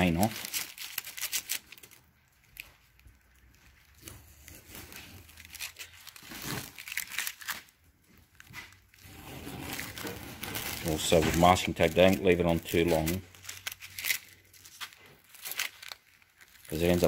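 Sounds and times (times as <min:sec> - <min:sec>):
masking tape peeling and crackling: 0:00.0 - 0:17.0.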